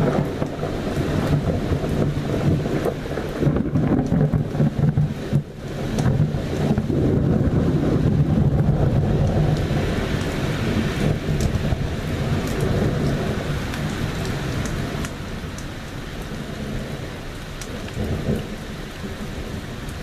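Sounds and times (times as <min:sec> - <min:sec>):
steady rain: 0:00.0 - 0:20.0
thunder rumbling: 0:00.0 - 0:20.0.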